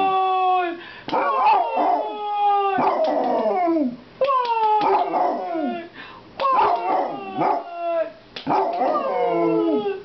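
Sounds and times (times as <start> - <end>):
dog howling: 1.1 - 10.0.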